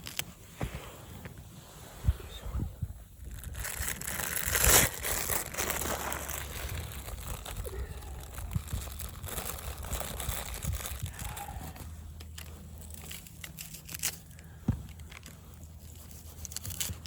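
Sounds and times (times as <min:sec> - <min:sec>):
material crinkling and rustling: 0:00.0 - 0:01.8, 0:03.2 - 0:17.0.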